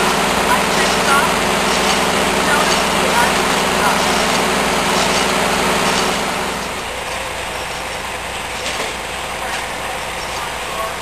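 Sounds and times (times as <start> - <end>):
diesel engine running sawmill: 0.0 - 11.0.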